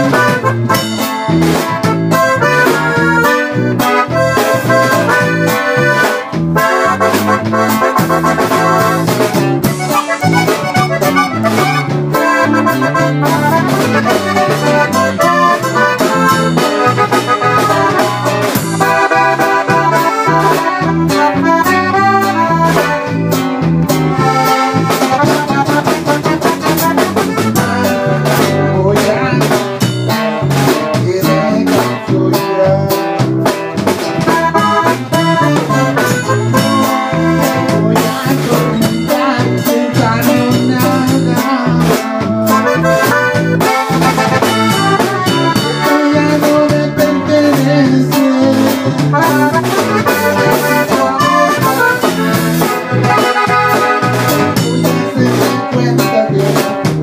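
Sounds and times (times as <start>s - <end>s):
button accordion melody: 0.0s - 57.0s
strummed acoustic guitar: 0.0s - 57.0s.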